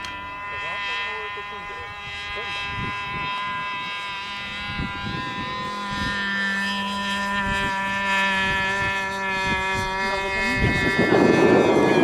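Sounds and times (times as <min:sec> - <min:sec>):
model plane engine running: 0:00.0 - 0:12.0
wind buffeting microphone: 0:00.0 - 0:12.0.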